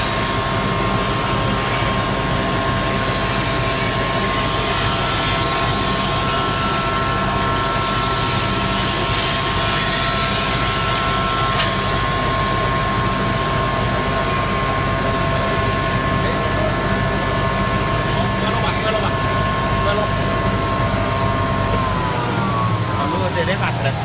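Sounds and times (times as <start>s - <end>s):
grinding machine whirring: 0.0s - 24.0s.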